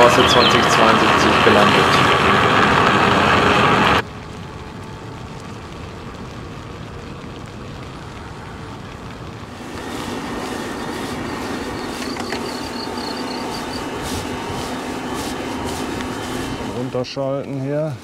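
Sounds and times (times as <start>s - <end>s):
wind noise: 0.0s - 16.9s.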